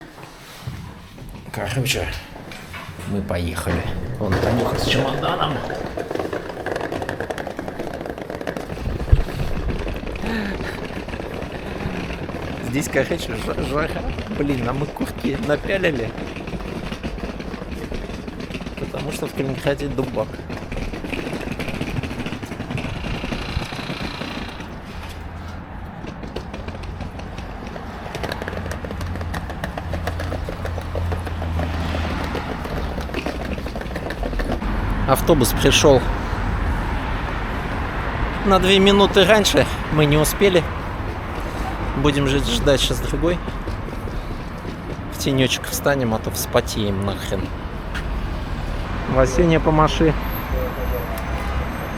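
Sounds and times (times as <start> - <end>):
rattling clatter: 0.0 - 50.9.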